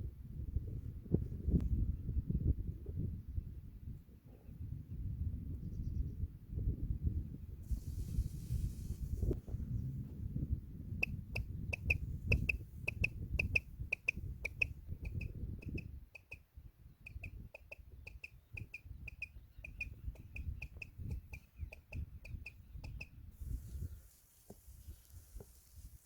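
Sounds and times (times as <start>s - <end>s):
low rumble of wind: 0.0s - 26.0s.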